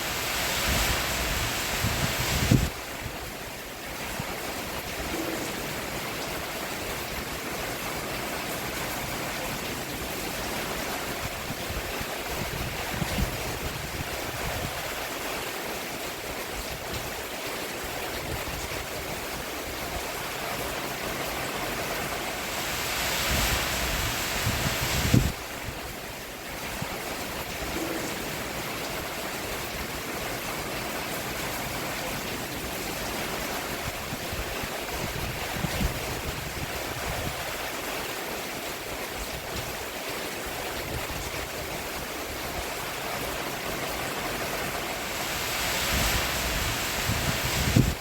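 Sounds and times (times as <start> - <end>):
rain on a roof: 0.0 - 48.0.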